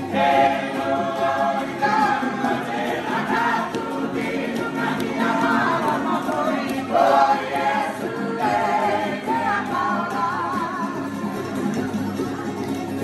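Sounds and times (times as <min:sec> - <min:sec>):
men singing together: 0:00.0 - 0:11.2
strummed ukuleles and guitars: 0:00.0 - 0:13.0.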